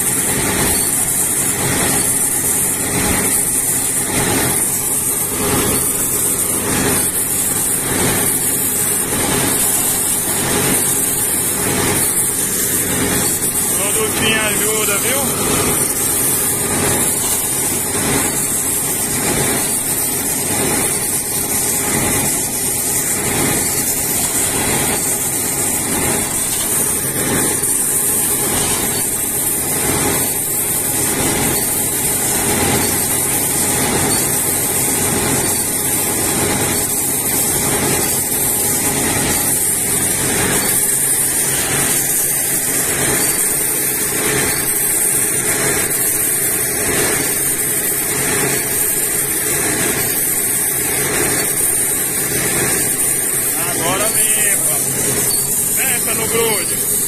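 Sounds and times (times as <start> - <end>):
drilling rig running: 0.0 - 57.0.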